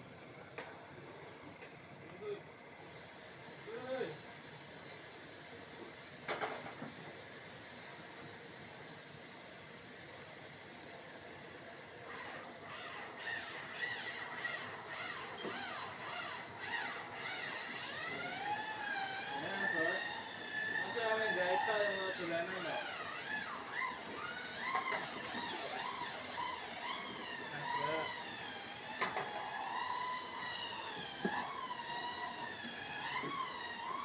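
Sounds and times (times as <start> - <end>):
small electric motor whine: 1.4 - 34.0.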